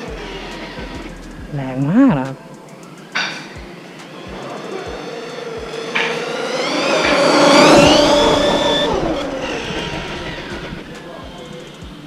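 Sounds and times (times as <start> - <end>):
toy truck electric motor whine: 0.0 - 1.5, 2.9 - 11.9
drivetrain and tyre noise: 0.0 - 12.0.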